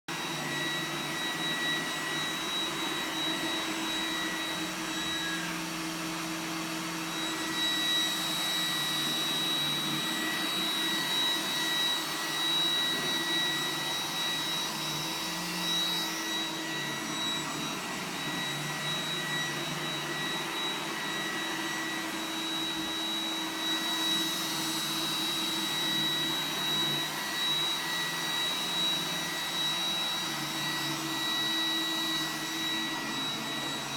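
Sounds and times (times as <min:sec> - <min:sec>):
robot vacuum running on carpet: 0:00.1 - 0:33.9.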